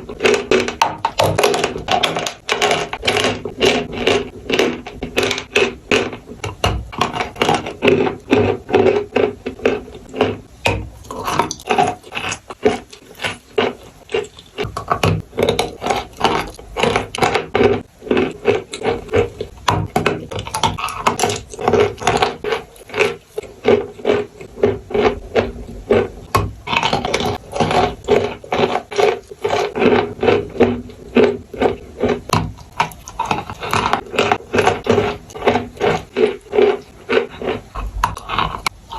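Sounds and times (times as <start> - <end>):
chewing crunchy chalk: 0.0 - 38.9.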